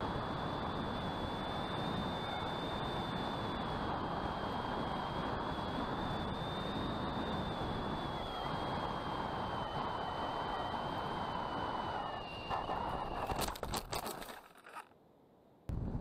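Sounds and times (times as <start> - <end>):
electric motor and propeller whine: 0.0 - 14.9.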